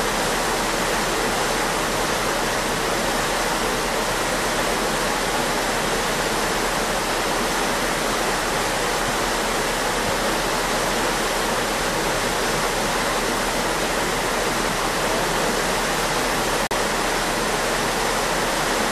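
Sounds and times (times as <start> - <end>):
ship wake rushing: 0.0 - 18.9.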